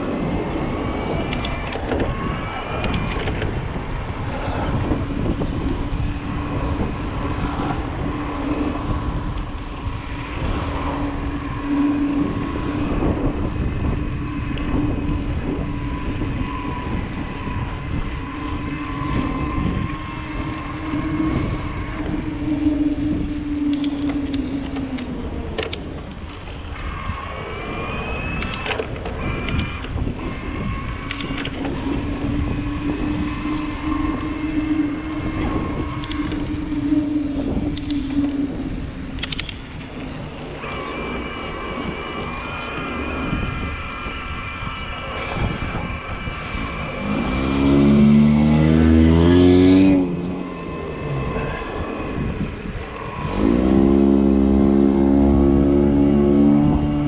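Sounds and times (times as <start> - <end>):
car engine: 0.0 - 57.0
e-bike motor whining: 0.0 - 57.0
tyre and wind noise: 0.0 - 57.0.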